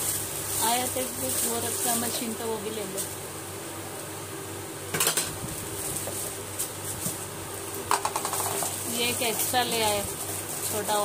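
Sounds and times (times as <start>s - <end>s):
plastic bags rustling: 0.0s - 3.3s, 5.2s - 11.0s.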